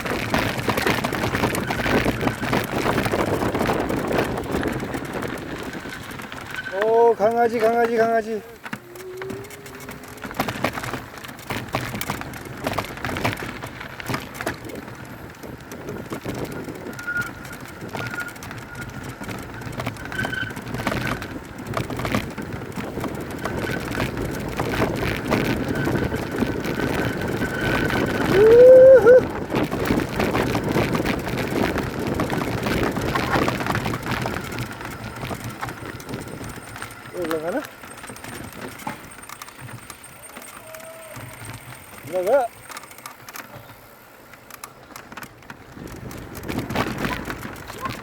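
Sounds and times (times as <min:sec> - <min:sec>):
mountain bike rattling: 0:00.0 - 0:48.0.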